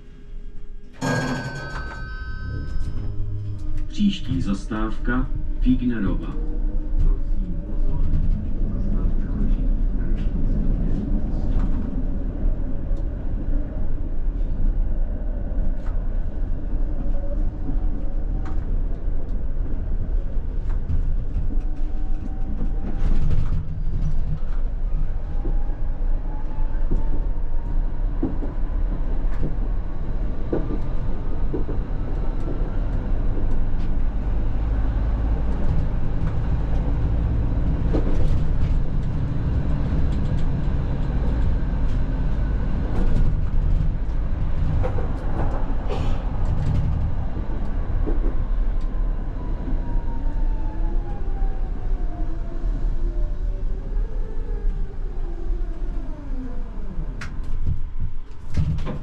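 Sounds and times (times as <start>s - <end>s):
tram rumbling: 0.0s - 59.0s.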